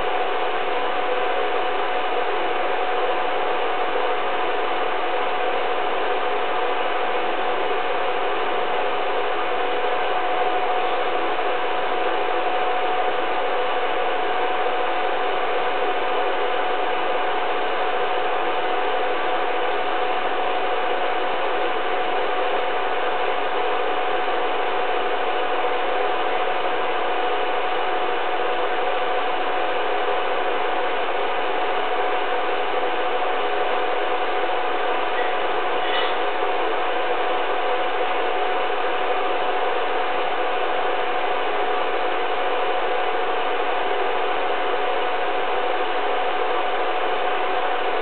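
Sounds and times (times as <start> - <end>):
constant whine: 0.0 - 48.0.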